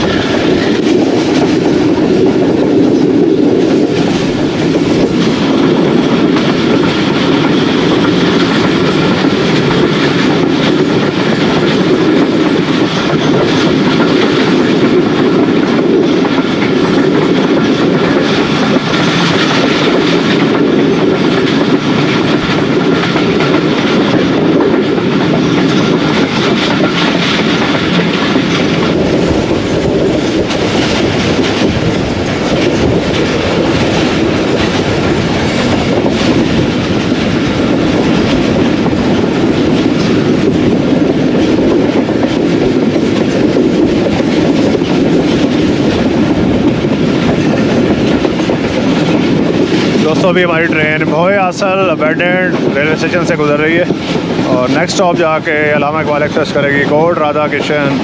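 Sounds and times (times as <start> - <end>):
train coaches rumbling: 0.0 - 58.0
wheels clickety-clack over rail joints: 0.0 - 58.0.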